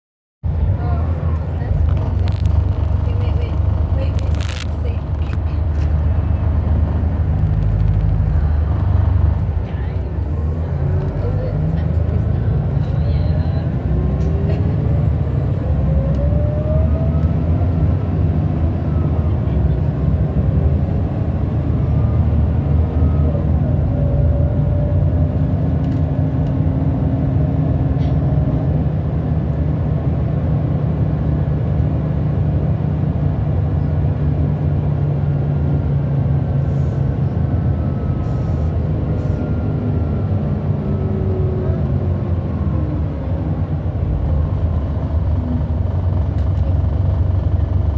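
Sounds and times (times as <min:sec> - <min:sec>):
bus diesel engine running: 0:00.4 - 0:47.9.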